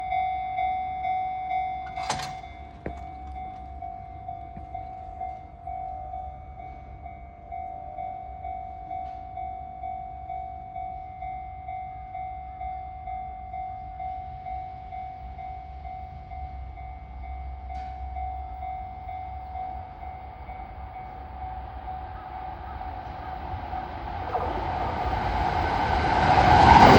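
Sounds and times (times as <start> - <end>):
level crossing warning bell: 0.0 - 26.9
low rumble of trains: 0.0 - 26.9.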